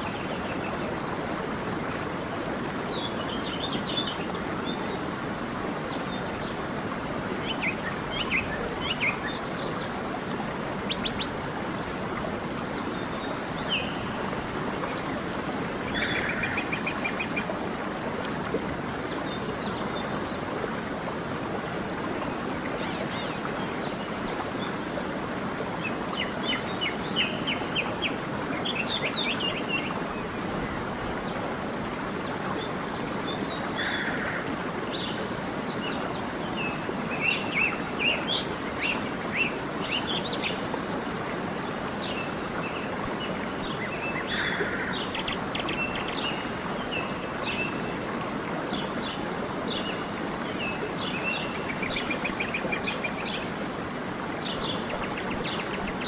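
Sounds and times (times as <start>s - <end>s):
songbirds chirping and twittering: 0.0s - 56.0s
stream flowing: 0.0s - 56.0s.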